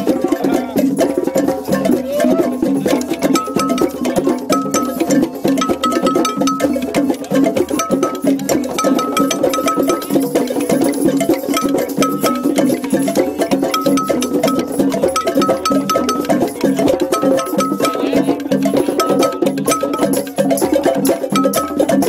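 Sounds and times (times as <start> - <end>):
sticks tapping clicking rhythm: 3.0 - 22.0.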